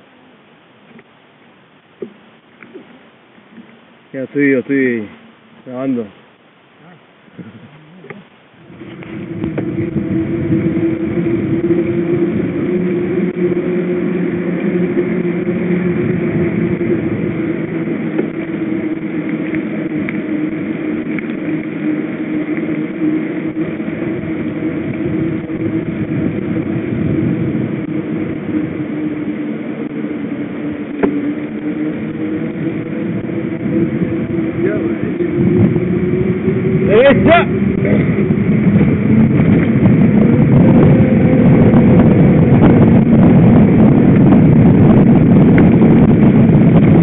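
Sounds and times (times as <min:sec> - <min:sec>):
bicycle tyre hum on asphalt: 0:00.0 - 0:47.0
wind noise: 0:07.3 - 0:47.0.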